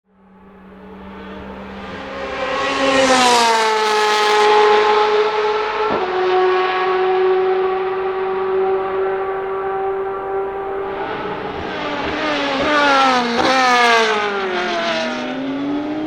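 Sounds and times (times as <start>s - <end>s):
race car engine passing: 0.1s - 16.0s.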